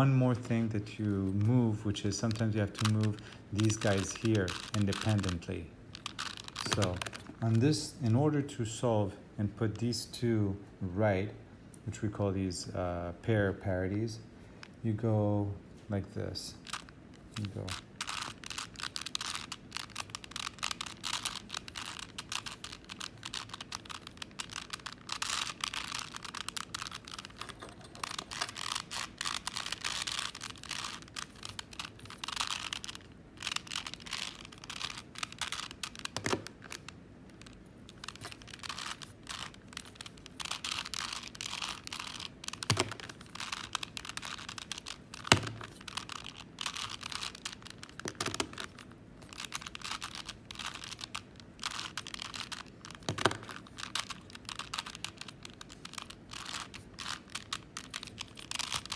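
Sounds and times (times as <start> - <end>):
puzzle cube clicking turns: 1.2 - 7.6, 16.6 - 58.9.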